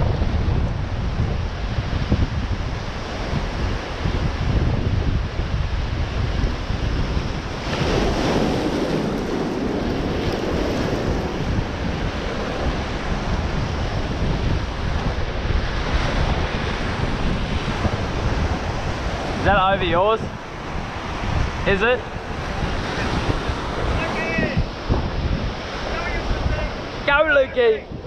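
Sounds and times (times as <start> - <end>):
surf washing through boulders: 0.0 - 28.0
wind buffeting microphone: 0.0 - 28.0
wave crashing over rocks: 1.0 - 28.0.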